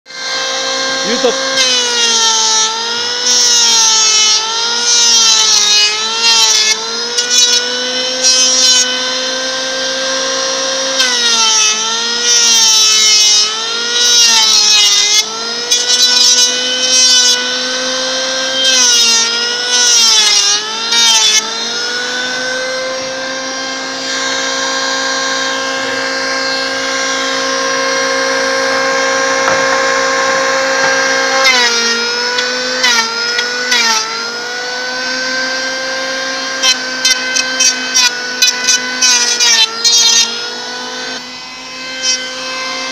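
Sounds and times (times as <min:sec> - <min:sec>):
electric planer motor running: 0:00.1 - 0:42.9
planer blades cutting wood: 0:00.1 - 0:42.9.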